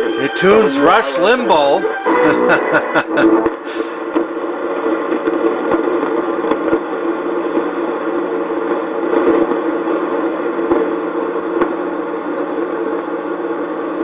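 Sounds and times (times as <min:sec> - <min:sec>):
radio hum and static: 0:00.0 - 0:11.6.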